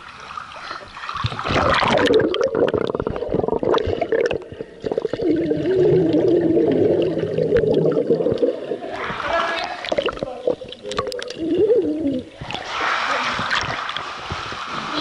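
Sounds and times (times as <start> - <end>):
water churning underwater: 0.0 - 15.0.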